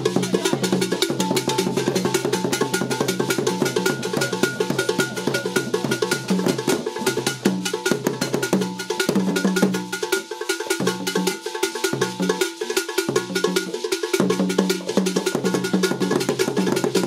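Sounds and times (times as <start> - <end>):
hand drums playing fast rhythm: 0.0 - 17.0.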